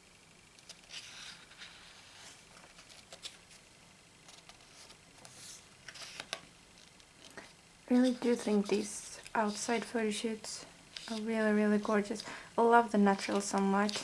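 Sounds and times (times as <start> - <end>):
pages turning: 0.6 - 12.4, 13.1 - 14.0.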